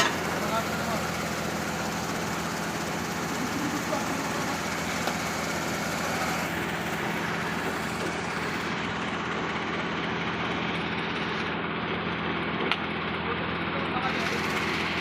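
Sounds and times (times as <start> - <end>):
heavy engine running steadily: 0.0 - 15.0.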